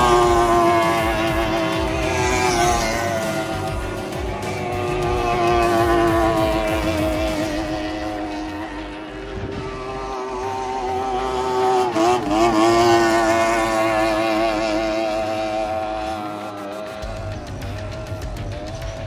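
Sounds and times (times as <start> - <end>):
outboard engine high-pitched whine: 0.0 - 19.0.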